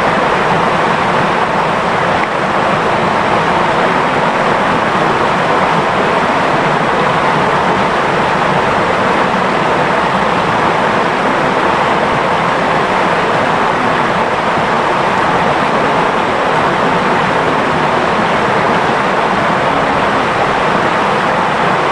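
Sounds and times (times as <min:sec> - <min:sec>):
river water flowing over stones: 0:00.0 - 0:21.9.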